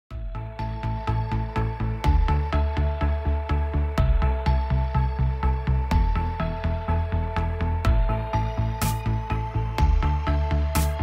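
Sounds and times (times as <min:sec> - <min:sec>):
background music with steady beat: 0:00.1 - 0:11.0.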